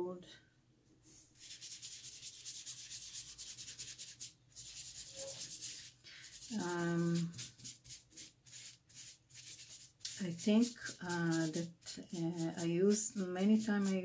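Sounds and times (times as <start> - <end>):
paintbrush scrubbing on paper: 1.1 - 14.0.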